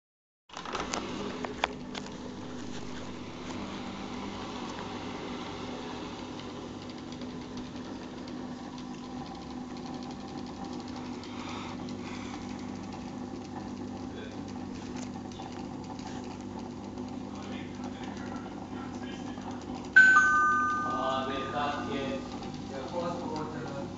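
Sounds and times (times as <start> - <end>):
washing machine motor hum: 0.6 - 23.9.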